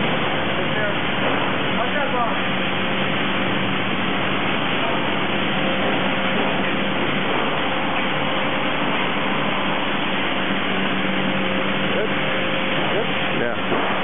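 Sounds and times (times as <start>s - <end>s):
low constant hum: 0.0s - 14.0s.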